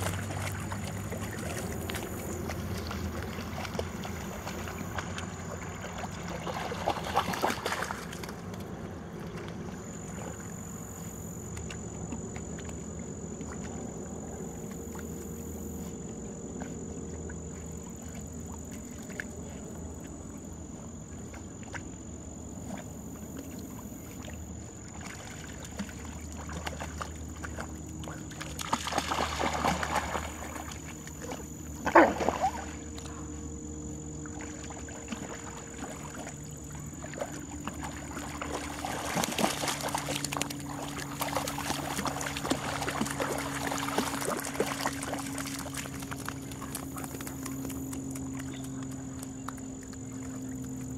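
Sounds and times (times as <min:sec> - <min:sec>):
dogs splashing in water: 0:00.0 - 0:50.9.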